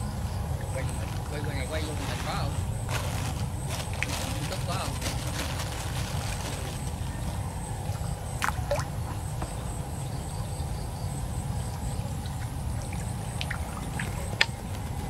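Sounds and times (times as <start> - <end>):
steady low rumble: 0.0 - 15.0
water trickling and splashing: 0.0 - 15.0.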